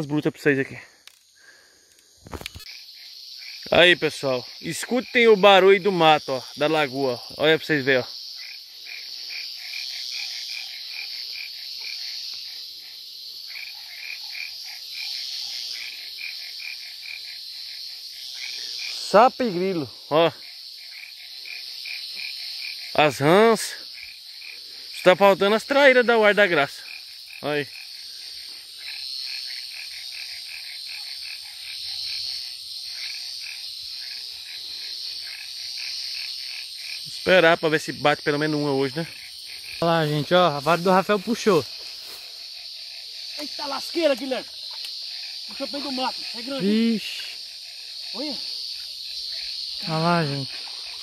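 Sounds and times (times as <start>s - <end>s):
crickets chirring: 0.0s - 51.0s
frogs calling: 0.0s - 51.0s.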